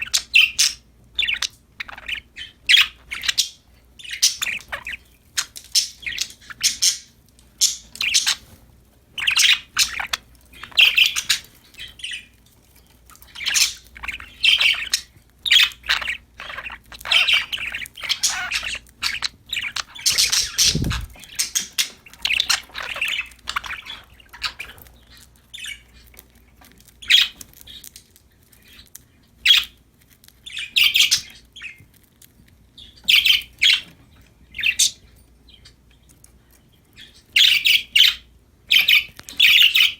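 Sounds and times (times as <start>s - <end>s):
budgies chirping and squawking: 0.0s - 39.9s.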